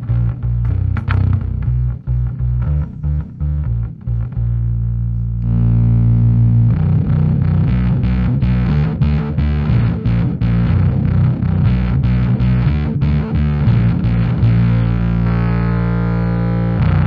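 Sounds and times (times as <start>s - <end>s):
fuzzed bass guitar notes: 0.0s - 17.0s.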